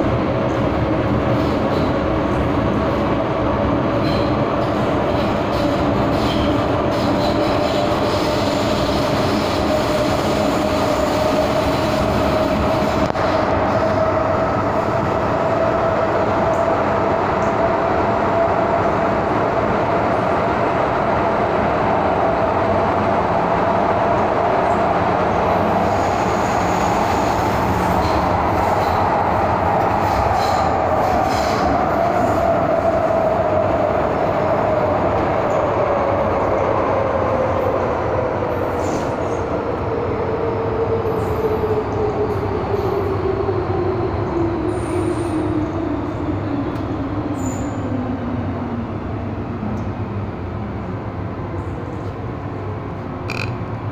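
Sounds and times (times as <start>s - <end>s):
train drive whine: 0.0s - 53.9s
train wheels rumbling on rail: 0.0s - 53.9s.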